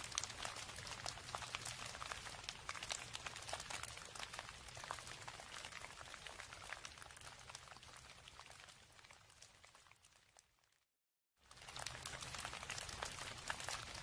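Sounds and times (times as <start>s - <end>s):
rain pattering: 0.0s - 10.6s, 11.4s - 14.0s.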